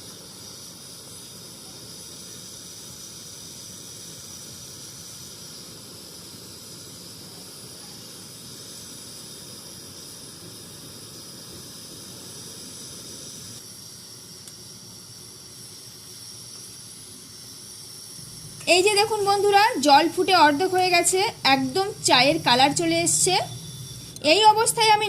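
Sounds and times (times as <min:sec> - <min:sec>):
pot boiling with steam hiss: 0:00.0 - 0:25.0.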